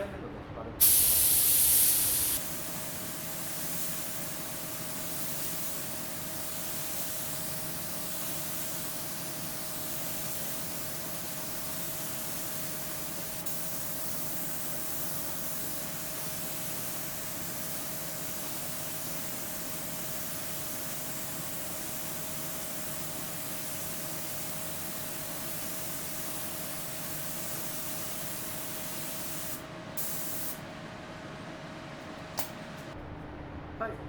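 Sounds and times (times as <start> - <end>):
spray gun hissing: 0.8 - 30.6.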